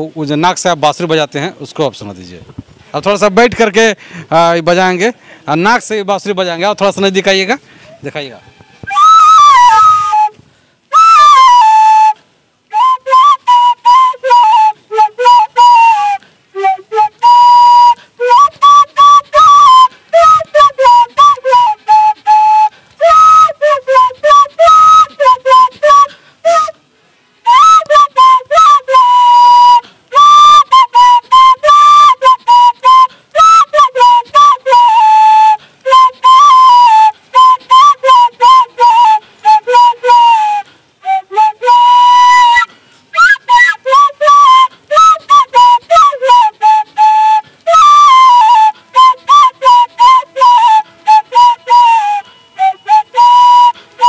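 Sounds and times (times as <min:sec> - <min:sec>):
bamboo flute melody: 0:07.8 - 0:54.0.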